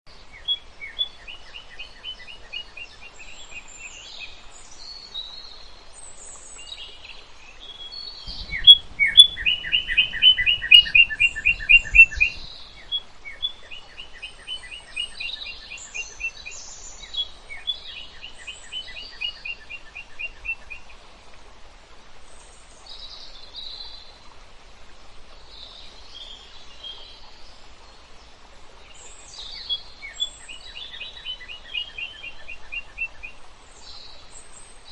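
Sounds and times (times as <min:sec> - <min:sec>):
small birds chirping: 0:00.1 - 0:21.0, 0:25.5 - 0:34.9.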